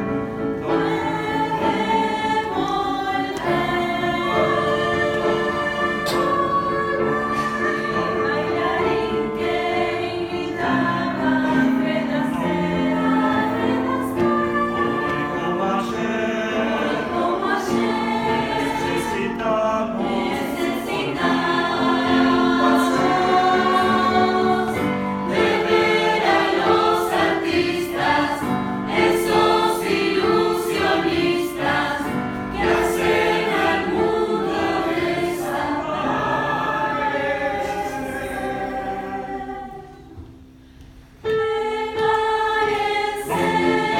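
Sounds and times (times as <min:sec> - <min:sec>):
youth choir singing: 0:00.0 - 0:40.4, 0:41.2 - 0:43.9.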